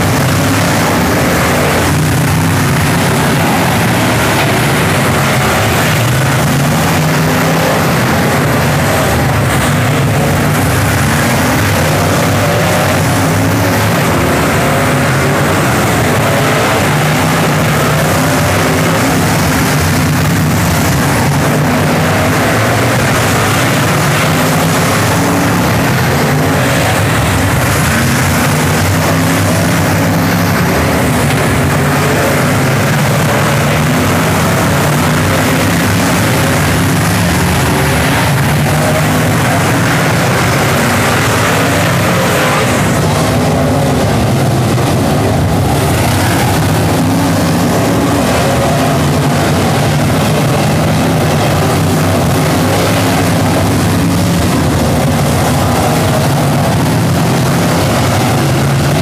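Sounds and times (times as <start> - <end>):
race car engines: 0.0 - 59.0.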